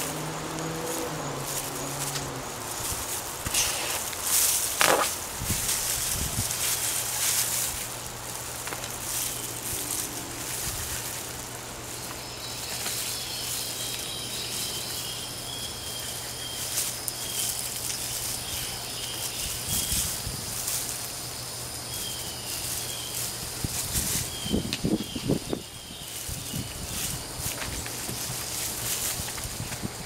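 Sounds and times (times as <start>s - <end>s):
hands scratching through soil: 0.0s - 30.0s.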